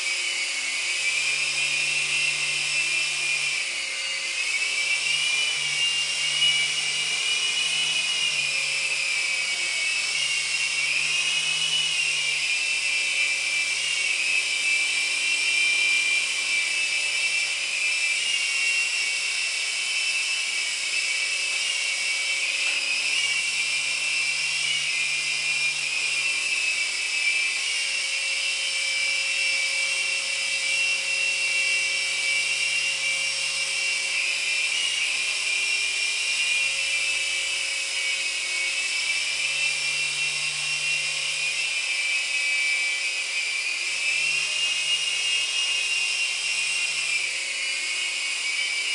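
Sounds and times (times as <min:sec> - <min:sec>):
rc helicopter high-pitched whine: 0:00.0 - 0:48.9.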